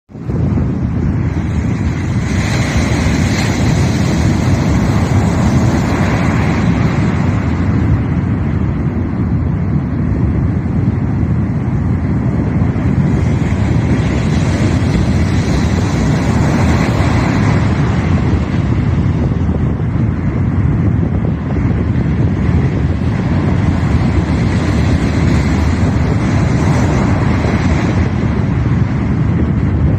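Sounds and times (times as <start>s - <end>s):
waves breaking and washing ashore: 0.1s - 29.9s
wind buffeting microphone: 0.1s - 29.9s.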